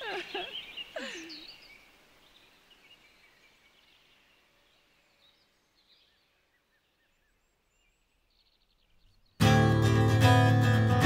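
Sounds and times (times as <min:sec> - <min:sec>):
faint outdoor ambience: 0:00.0 - 0:09.6.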